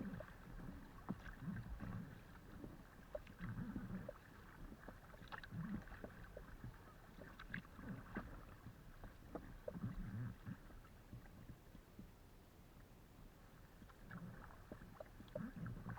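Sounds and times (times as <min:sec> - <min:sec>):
paddle strokes splashing in water: 0:00.0 - 0:12.2, 0:13.4 - 0:15.9.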